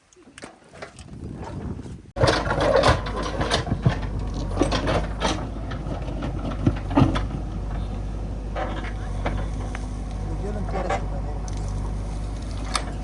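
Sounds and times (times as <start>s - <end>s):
heavy diesel machinery running: 2.2s - 13.0s
metal and stone clanking: 2.2s - 13.0s.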